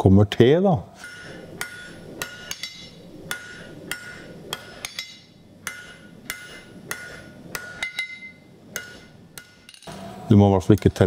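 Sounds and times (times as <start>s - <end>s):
hammer striking steel on anvil: 1.0s - 9.9s.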